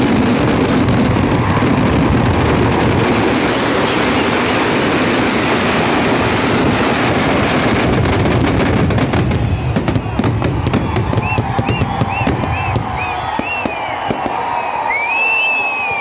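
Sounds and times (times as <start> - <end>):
crackling firecracker bangs: 0.0 - 15.1
fireworks explosions rumble: 0.0 - 16.0
fireworks whistles: 0.0 - 16.0.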